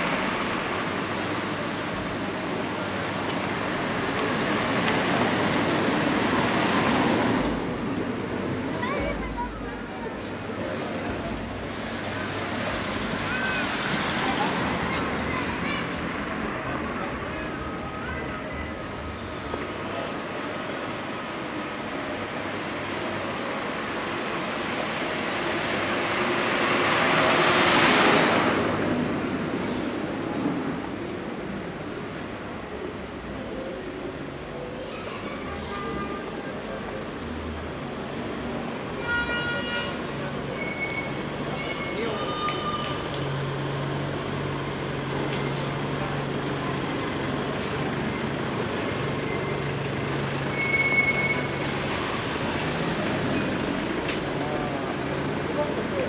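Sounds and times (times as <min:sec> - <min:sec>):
passing vehicles rumble: 0:00.0 - 0:56.0.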